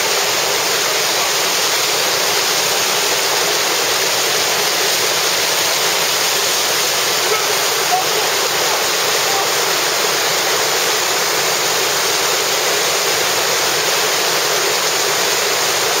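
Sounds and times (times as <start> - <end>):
river rapid rushing: 0.0 - 16.0.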